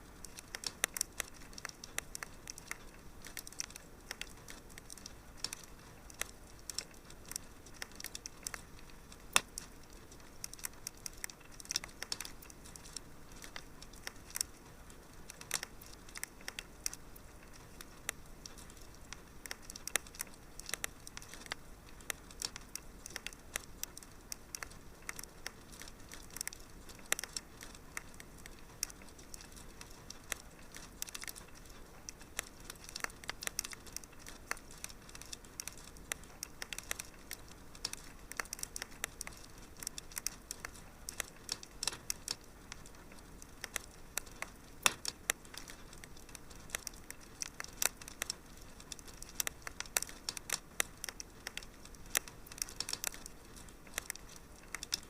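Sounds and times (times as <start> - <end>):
soft steady fire hiss: 0.0 - 55.0
wood fire crackling and popping: 0.0 - 55.0.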